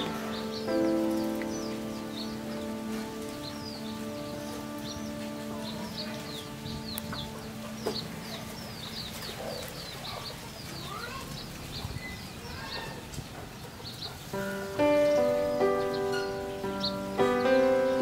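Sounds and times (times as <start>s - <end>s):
chickens clucking: 0.0s - 18.0s
chicks peeping: 0.0s - 18.0s.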